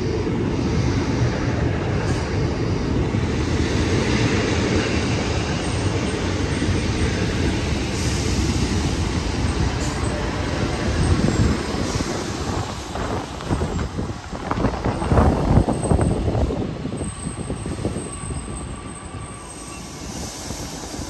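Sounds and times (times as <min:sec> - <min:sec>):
diesel train engine and wheels: 0:00.0 - 0:21.0.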